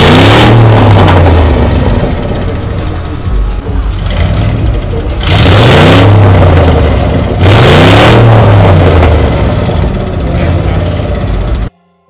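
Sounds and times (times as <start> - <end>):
engine revving: 0.0 - 11.7.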